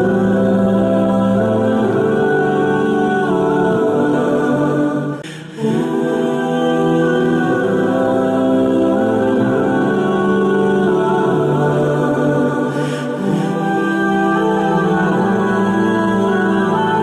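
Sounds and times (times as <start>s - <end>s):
slow choir-like chord music: 0.0s - 17.0s.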